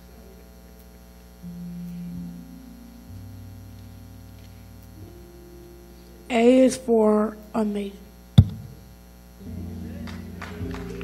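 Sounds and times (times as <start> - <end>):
low sustained musical notes: 0.0 - 7.6, 9.4 - 11.0
electrical hum: 0.0 - 11.0.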